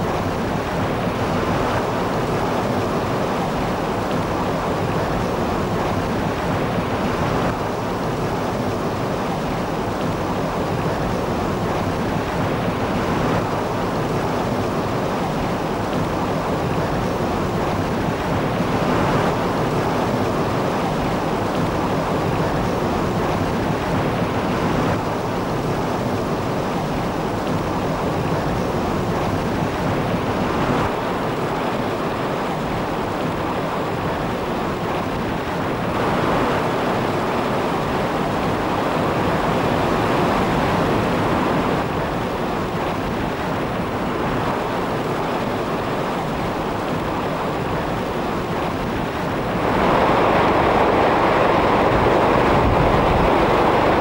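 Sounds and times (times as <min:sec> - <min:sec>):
floodwater rushing: 0:00.0 - 0:54.0
wind: 0:00.0 - 0:54.0.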